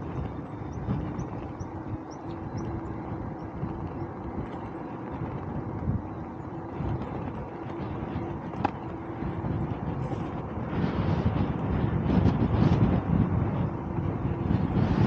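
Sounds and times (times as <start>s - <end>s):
bicycle tyres rolling on road: 0.0s - 15.0s
faint steady hum: 0.0s - 15.0s.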